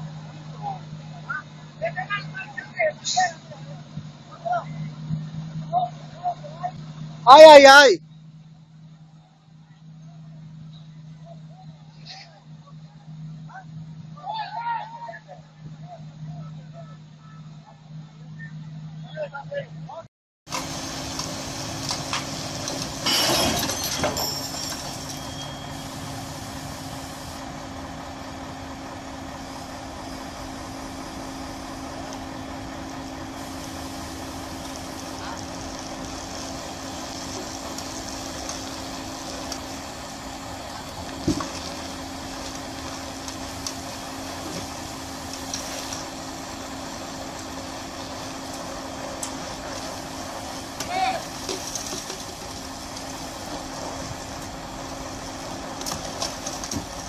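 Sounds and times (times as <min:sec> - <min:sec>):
diesel engine running: 0:00.0 - 0:14.4, 0:15.0 - 0:57.0.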